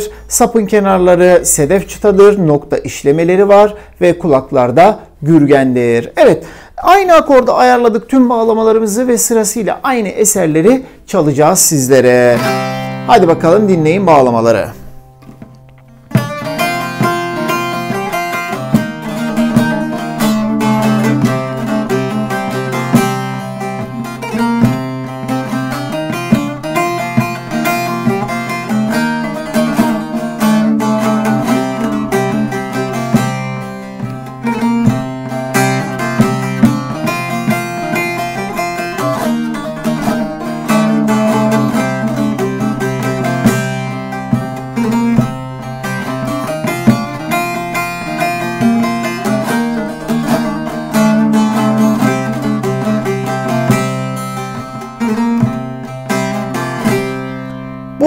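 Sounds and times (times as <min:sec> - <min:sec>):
plucked lute folk tune: 0:00.0 - 0:58.0.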